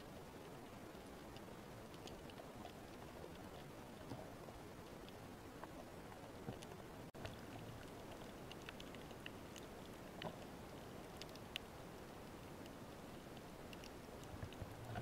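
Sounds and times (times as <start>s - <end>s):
small clicks and crackles: 0.0s - 15.0s.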